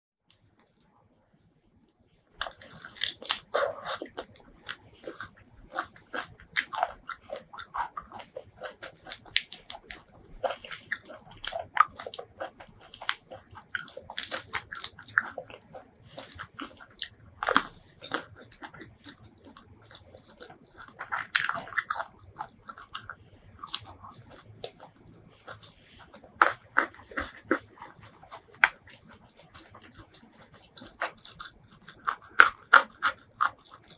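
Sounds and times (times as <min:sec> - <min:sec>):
crunching and chewing: 0:00.3 - 0:01.6, 0:02.2 - 0:33.9.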